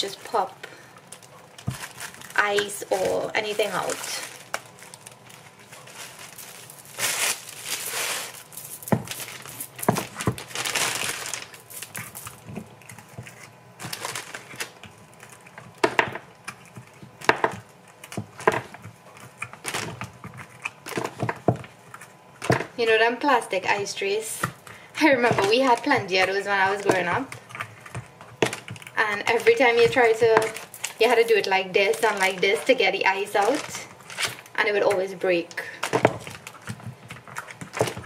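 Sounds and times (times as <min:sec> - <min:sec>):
plastic bag crinkling: 0:00.0 - 0:22.2, 0:24.5 - 0:35.0, 0:35.6 - 0:38.0.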